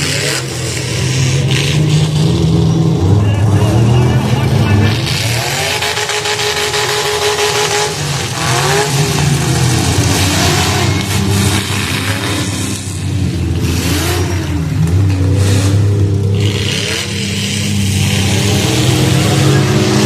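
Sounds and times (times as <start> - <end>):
car engines revving: 0.0 - 20.0
dense noisy roar: 0.0 - 20.0.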